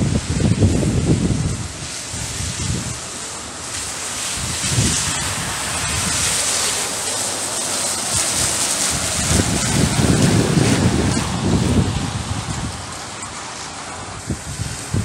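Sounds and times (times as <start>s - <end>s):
car tyres hissing on wet road: 0.0s - 15.0s
rain on a wet street: 0.0s - 15.0s
wind buffeting microphone: 0.0s - 15.0s.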